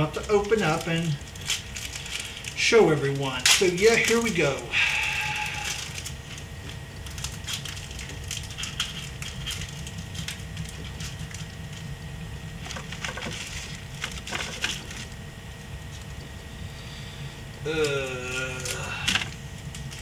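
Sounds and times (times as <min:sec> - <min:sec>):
plastic wrapper crinkling and tearing: 0:00.0 - 0:16.3, 0:17.7 - 0:20.0.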